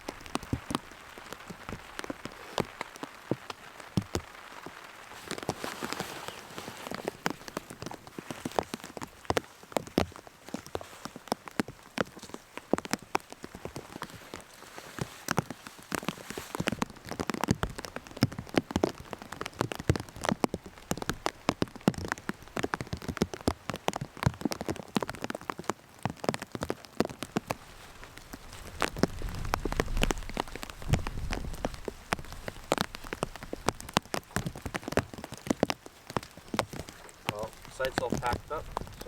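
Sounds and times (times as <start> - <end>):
large raindrops ticking: 0.0 - 39.0
rain falling: 0.0 - 39.0.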